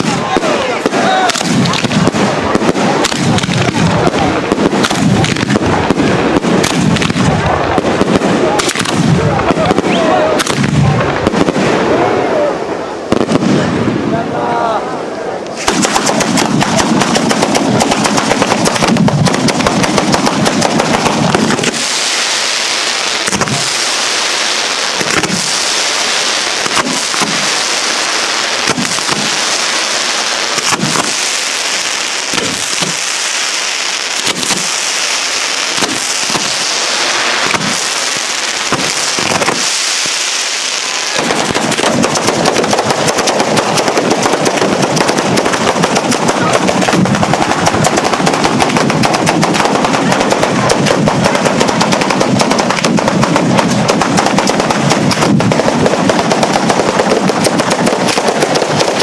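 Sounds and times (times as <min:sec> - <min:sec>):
firecrackers rattling: 0:00.0 - 0:11.8, 0:15.5 - 0:59.0
loud firework bangs: 0:00.0 - 0:14.2, 0:15.5 - 0:59.0.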